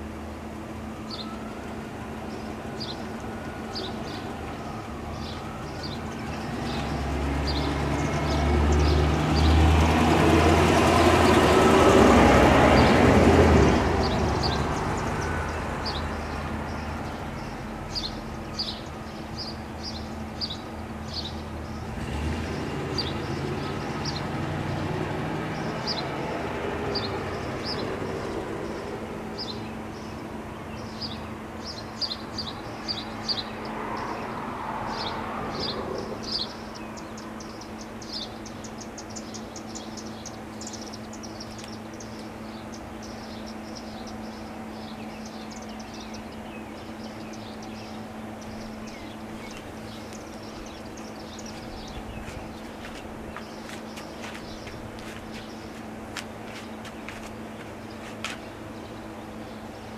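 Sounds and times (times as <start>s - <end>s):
vehicle passing: 1.2s - 18.7s, 19.9s - 38.4s, 42.0s - 59.8s.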